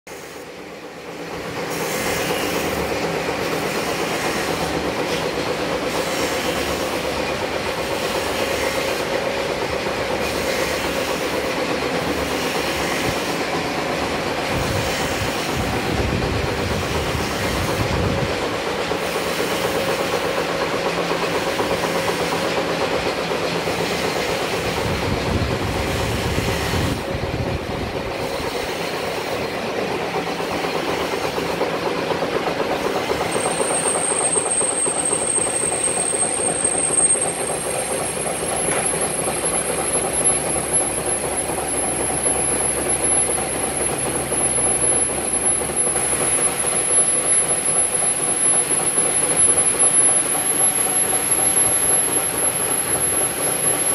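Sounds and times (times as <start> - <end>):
machine rattle and hum: 0.6 - 53.9.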